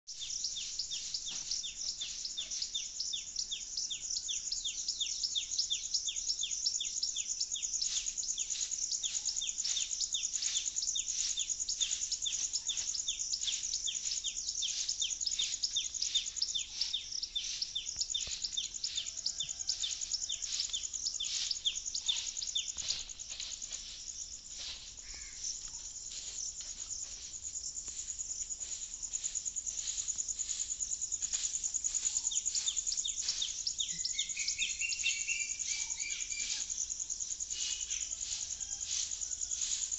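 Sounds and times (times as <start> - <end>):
insects chirping: 0.1 - 39.9.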